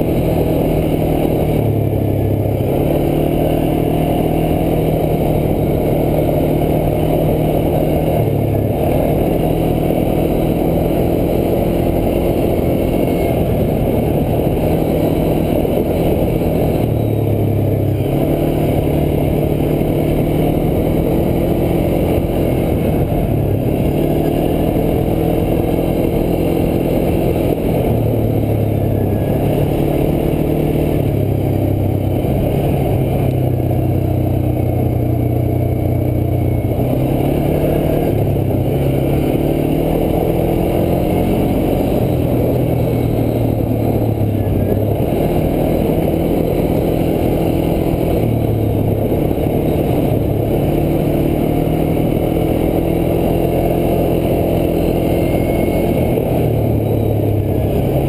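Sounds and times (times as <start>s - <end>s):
atv engine running: 0.0s - 58.0s
constant low rumble: 0.0s - 58.0s.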